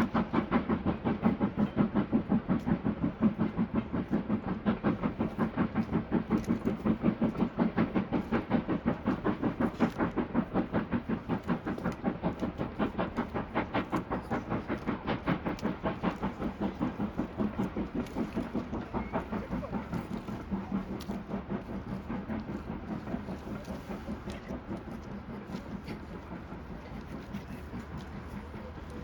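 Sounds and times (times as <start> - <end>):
steam train chugging: 0.0 - 29.0.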